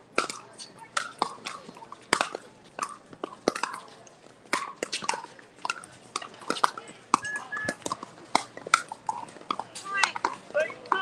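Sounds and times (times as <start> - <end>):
paddles hitting plastic ball: 0.1 - 11.0.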